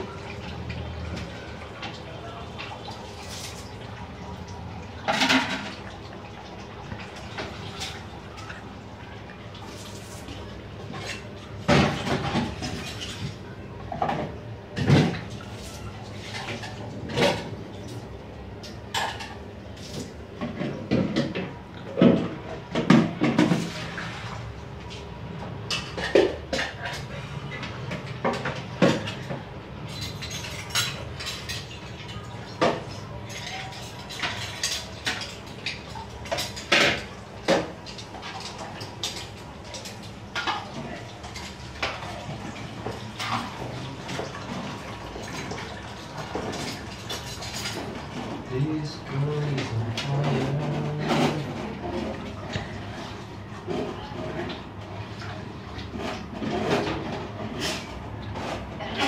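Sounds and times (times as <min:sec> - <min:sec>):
metal pots and utensils clattering: 0:05.0 - 0:06.1, 0:09.7 - 0:18.0, 0:18.6 - 0:24.2, 0:25.4 - 0:59.0.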